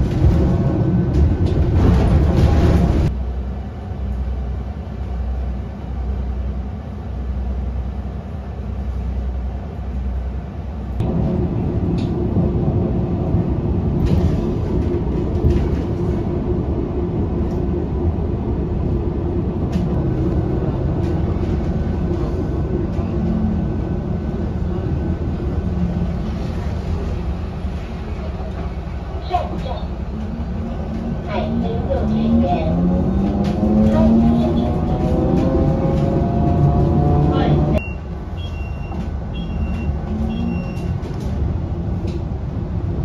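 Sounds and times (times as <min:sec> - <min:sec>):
bus cabin rumble: 0:00.0 - 0:43.0.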